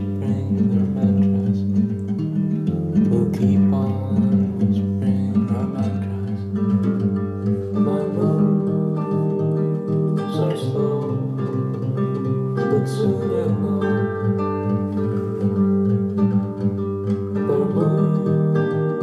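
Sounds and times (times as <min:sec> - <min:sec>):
guitar music through speakers: 0:00.0 - 0:19.0.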